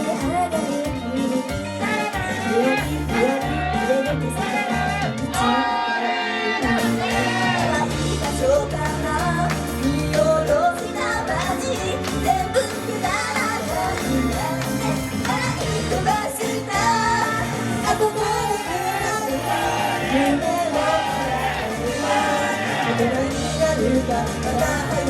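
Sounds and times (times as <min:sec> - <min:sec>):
loud pop music: 0:00.0 - 0:25.0
women singing: 0:00.0 - 0:25.0.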